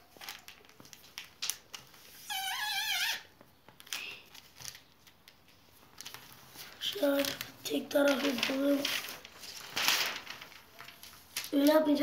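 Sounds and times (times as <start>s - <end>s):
newspaper rustling and folding: 0.0s - 12.0s.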